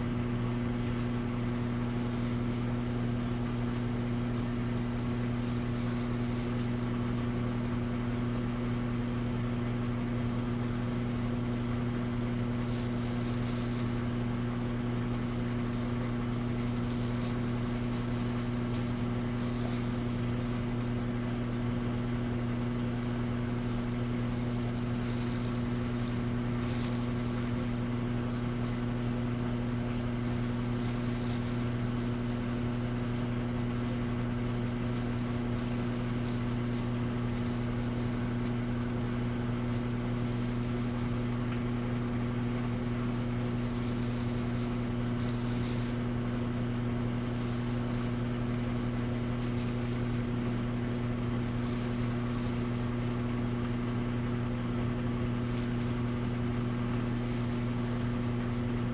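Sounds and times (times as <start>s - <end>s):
washing machine motor hum: 0.0s - 58.9s.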